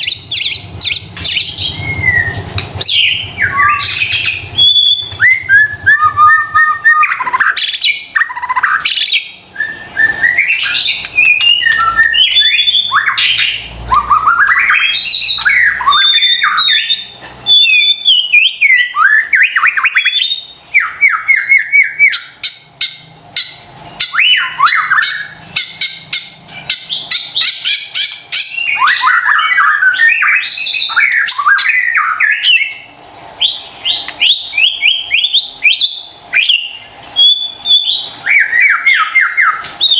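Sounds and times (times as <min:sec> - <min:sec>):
bird singing whistled phrases: 0:00.0 - 0:22.4, 0:24.0 - 0:26.1, 0:26.7 - 0:39.9.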